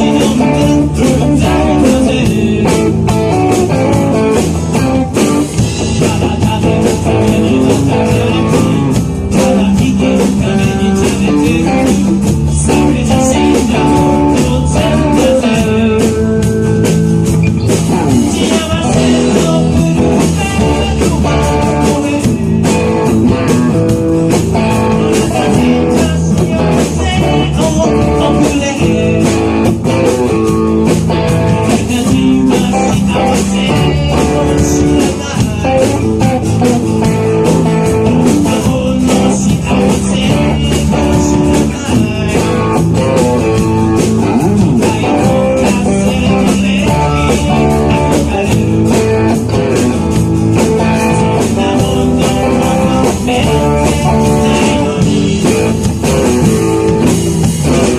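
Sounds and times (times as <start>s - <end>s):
man singing: 0.0s - 57.9s
rock band playing: 0.0s - 57.9s.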